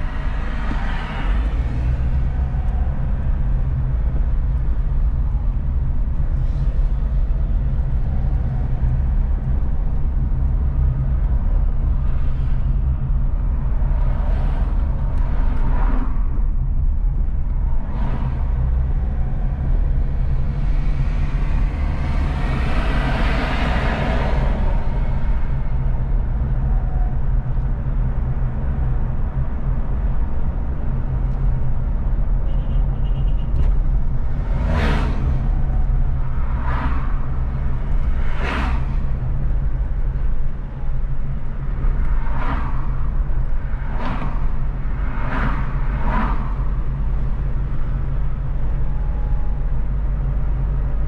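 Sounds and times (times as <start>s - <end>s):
car driving at highway speed: 0.0s - 51.0s
passing traffic: 0.0s - 51.0s.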